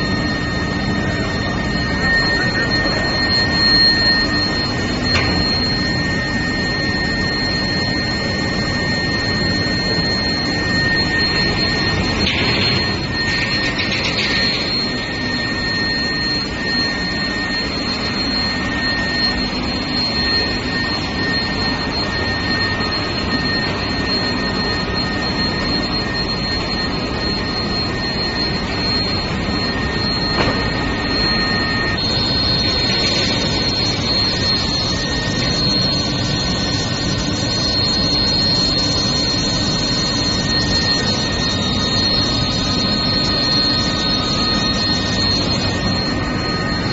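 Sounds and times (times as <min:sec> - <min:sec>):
high steady whines: 0:00.0 - 0:46.9
industrial furnace roar: 0:00.0 - 0:46.9.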